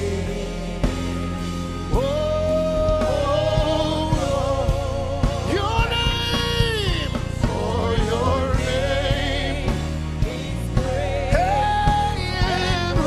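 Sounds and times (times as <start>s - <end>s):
drum kit: 0.0s - 13.0s
steady low bass: 0.0s - 13.0s.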